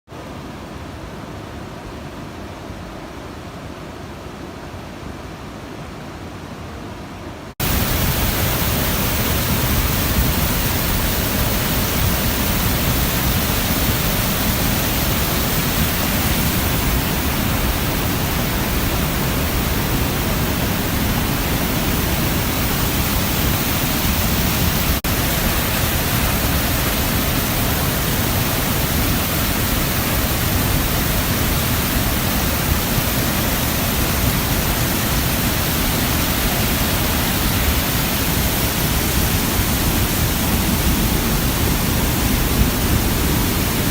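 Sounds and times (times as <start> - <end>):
floodwater rushing: 7.6 - 43.9.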